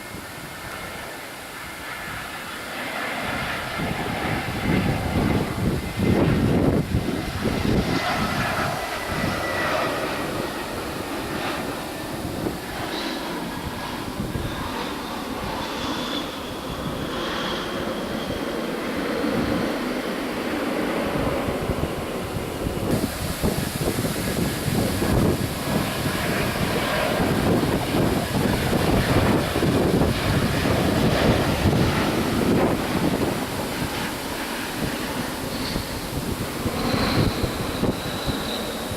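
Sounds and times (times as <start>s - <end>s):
jet engines rumbling: 0.0s - 38.9s
wind blowing across microphone: 0.0s - 38.9s
thin engine whine: 3.3s - 38.9s.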